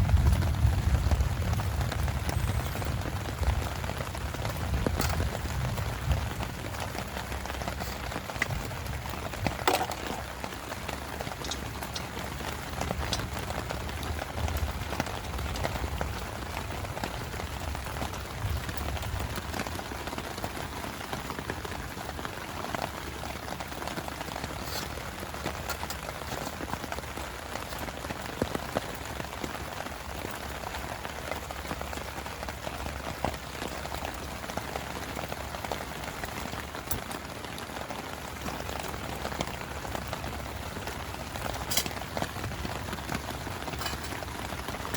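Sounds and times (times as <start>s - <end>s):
heavy rain falling: 0.0s - 44.9s
raindrops ticking: 0.0s - 44.9s.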